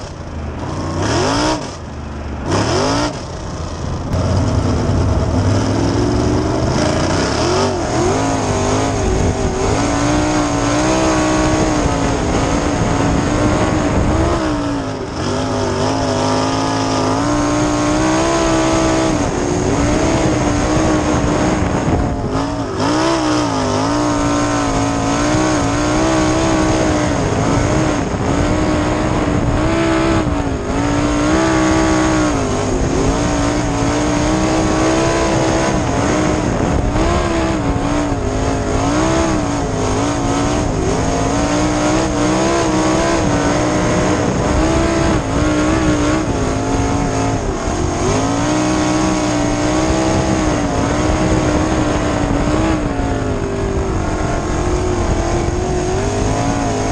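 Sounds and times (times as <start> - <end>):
race car engine revving: 0.0 - 56.9
rush of wind and dirt: 0.0 - 56.9.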